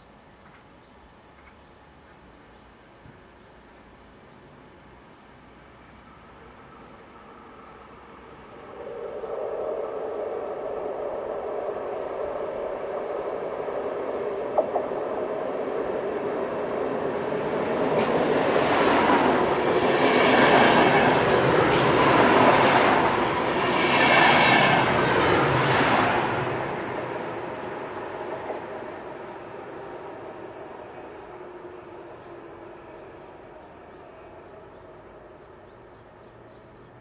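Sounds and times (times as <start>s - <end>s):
electric train humming: 5.8s - 36.8s.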